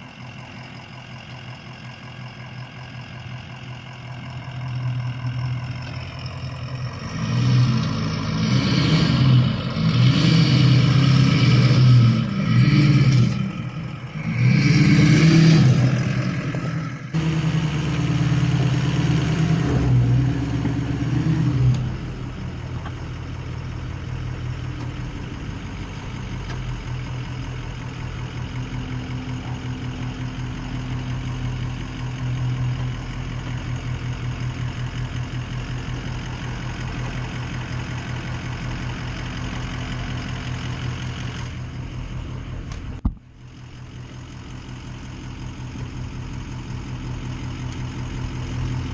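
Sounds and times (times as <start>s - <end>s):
diesel engine revving and idling: 0.0s - 48.9s.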